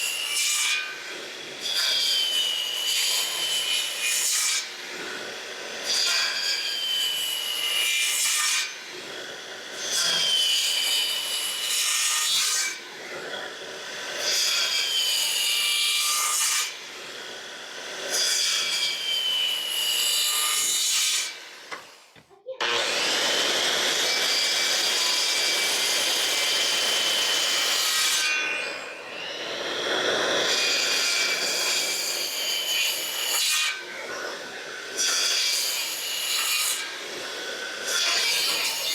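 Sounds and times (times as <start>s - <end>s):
saw cutting through wood: 0.0s - 38.9s.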